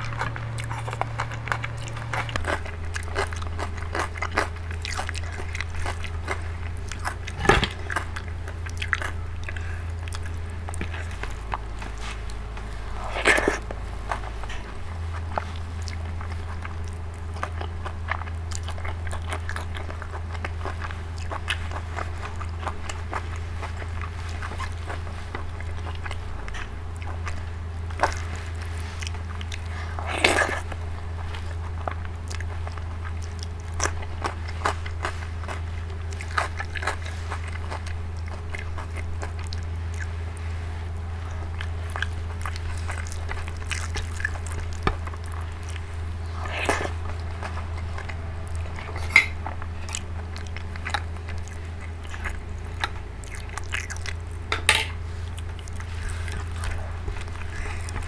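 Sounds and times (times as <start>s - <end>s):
chewing and biting: 0.0s - 58.0s
fingers mixing rice wet smacks: 0.0s - 58.0s
steady low hum: 0.0s - 58.0s.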